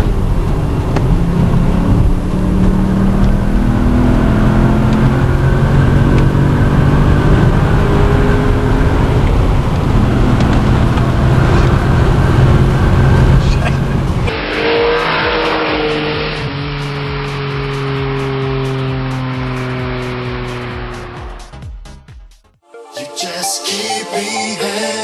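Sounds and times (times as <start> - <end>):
car engine accelerating: 0.0 - 21.6
road noise: 0.0 - 21.6.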